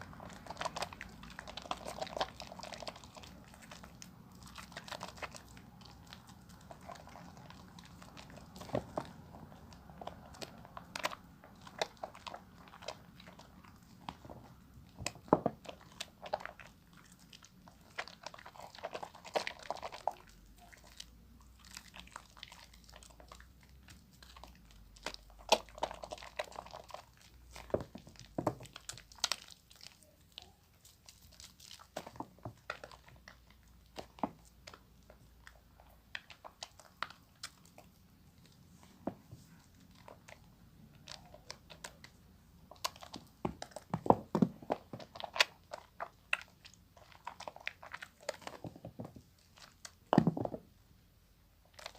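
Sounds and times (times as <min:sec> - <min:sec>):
wet squelches: 0:00.0 - 0:44.0.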